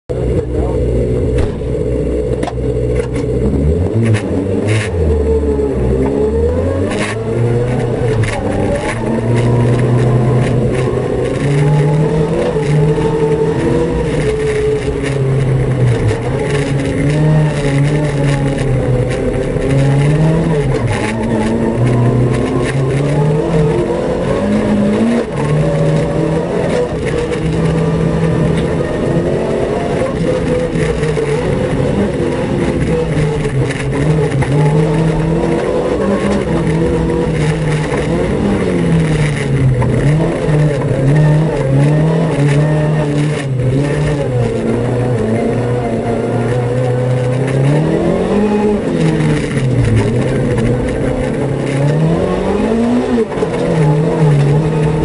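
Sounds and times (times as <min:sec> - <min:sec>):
gravel pinging against car: 0:00.1 - 0:55.0
rally car engine revving: 0:00.1 - 0:55.0.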